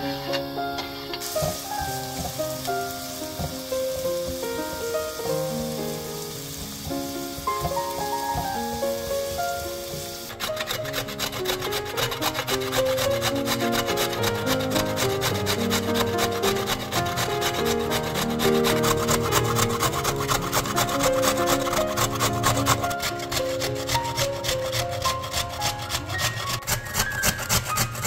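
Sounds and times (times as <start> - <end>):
carrot grated on box grater: 0.2 - 28.0.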